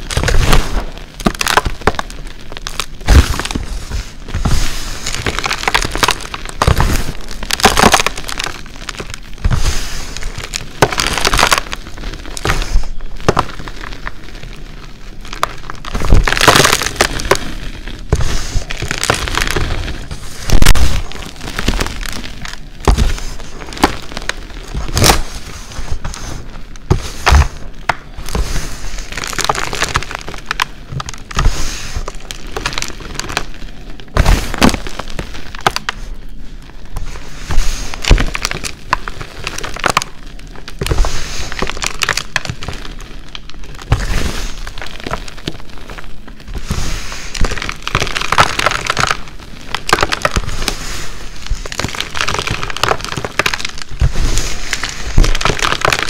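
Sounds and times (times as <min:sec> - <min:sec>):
chalk clumps crunching: 0:00.0 - 0:56.0.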